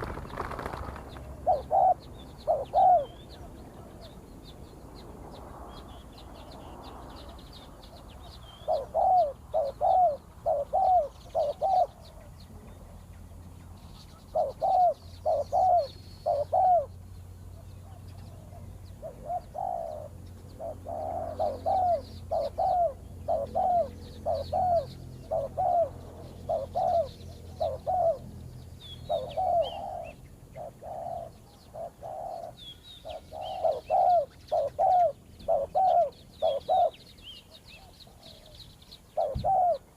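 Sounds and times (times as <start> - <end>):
doves cooing: 0.0 - 4.2, 8.6 - 12.9, 14.1 - 28.4, 29.0 - 38.5, 39.1 - 39.9
small birds chirping: 0.0 - 39.9.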